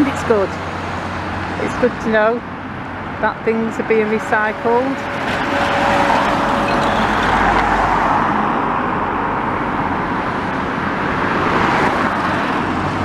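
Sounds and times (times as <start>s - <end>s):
cars passing on busy road: 0.0s - 13.0s.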